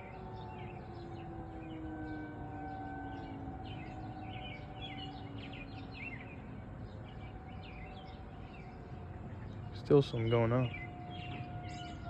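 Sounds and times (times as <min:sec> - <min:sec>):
birds chirping: 0:00.0 - 0:12.0
distant warning sirens: 0:00.0 - 0:12.0.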